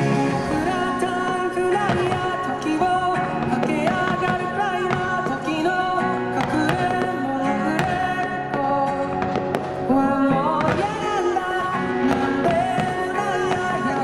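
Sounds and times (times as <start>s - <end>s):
song with sung melody: 0.0s - 14.0s.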